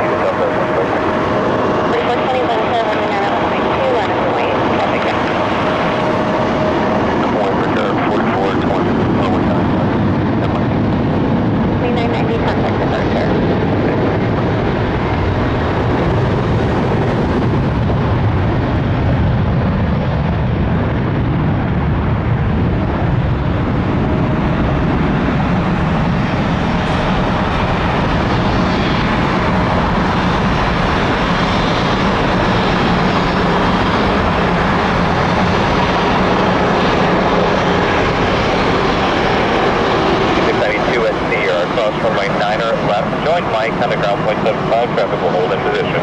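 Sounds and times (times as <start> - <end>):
jet engines rushing: 0.0 - 46.0.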